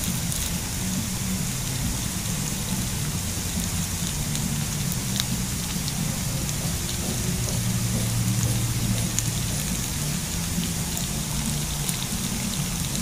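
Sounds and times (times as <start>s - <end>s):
fritters sizzling in oil: 0.0s - 13.0s
low steady drone: 0.0s - 13.0s
oil popping: 0.0s - 13.0s.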